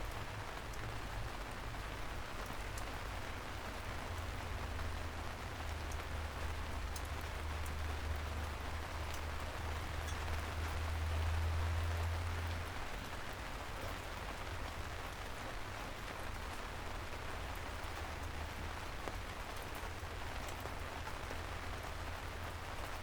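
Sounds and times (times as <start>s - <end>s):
rain falling on streets: 0.0s - 23.0s.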